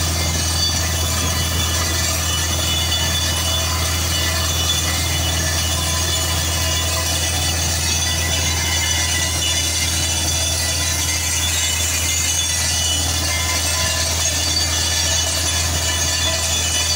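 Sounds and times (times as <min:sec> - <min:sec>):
drilling rig engine droning: 0:00.0 - 0:16.9
water gushing from borehole: 0:00.0 - 0:16.9.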